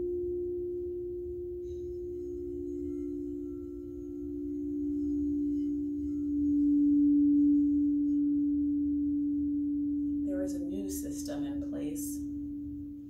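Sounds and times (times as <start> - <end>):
singing bowl ringing: 0.0 - 13.0.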